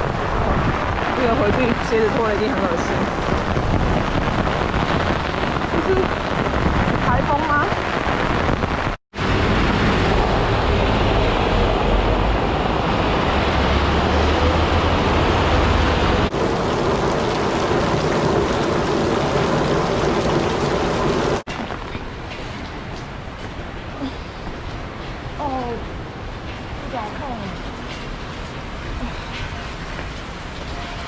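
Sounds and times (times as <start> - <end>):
wind rumbling on microphone: 0.0 - 30.7
heavy rain pouring: 0.0 - 31.0.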